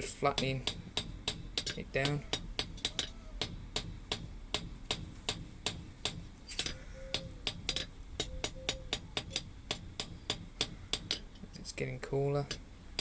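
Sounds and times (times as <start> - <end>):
hammer striking iron on anvil: 0.2 - 11.3.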